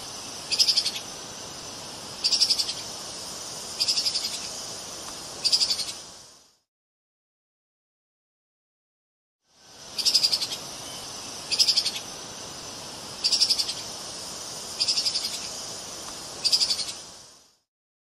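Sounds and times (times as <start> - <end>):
high background hiss: 0.0 - 6.7, 9.4 - 17.7.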